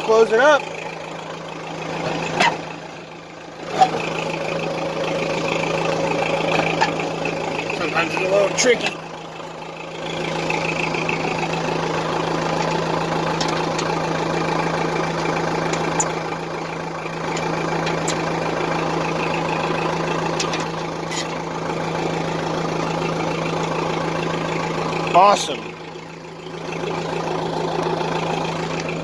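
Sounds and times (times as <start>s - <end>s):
backhoe engine idling: 0.0s - 29.0s.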